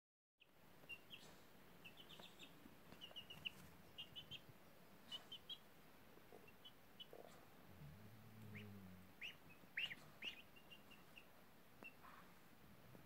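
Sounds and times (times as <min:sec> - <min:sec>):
chicks peeping softly: 0:00.4 - 0:13.0.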